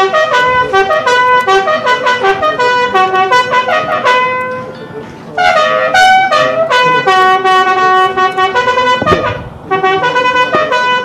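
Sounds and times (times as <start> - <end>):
bugle call: 0.0 - 4.8, 5.4 - 11.0.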